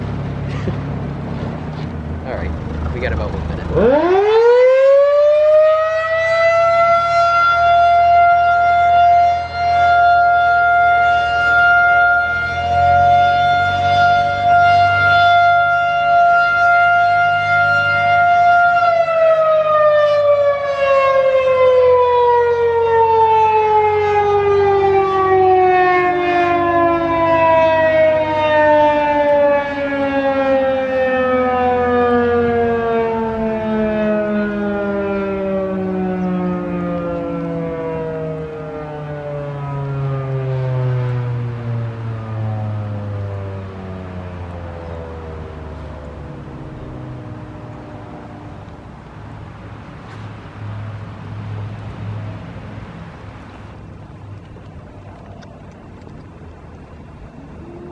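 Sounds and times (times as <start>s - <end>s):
warning siren wailing: 0.0s - 57.9s
second siren falling in pitch: 3.7s - 48.9s, 53.7s - 57.9s.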